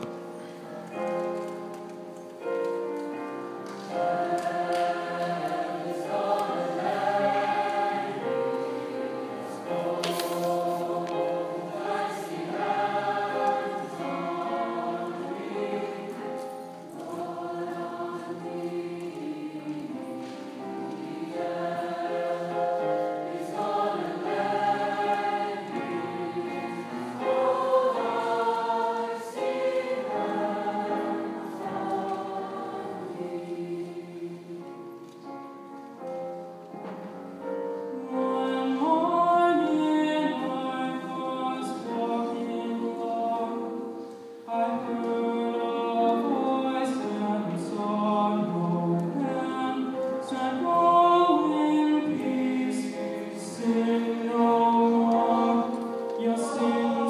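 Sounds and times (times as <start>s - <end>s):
mixed choir singing in harmony: 2.5s - 36.6s, 37.2s - 57.0s.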